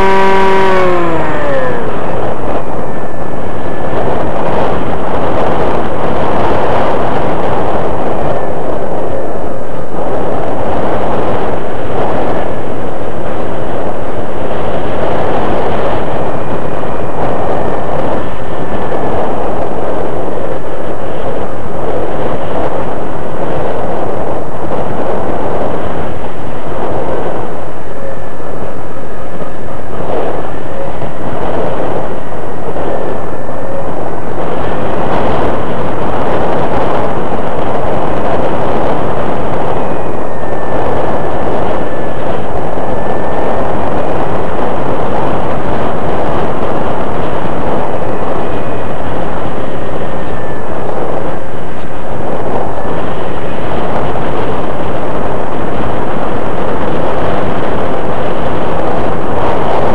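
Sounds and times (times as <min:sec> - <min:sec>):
faint wavering whine: 0:00.0 - 0:59.9
model airplane wind and motor: 0:00.0 - 0:59.9.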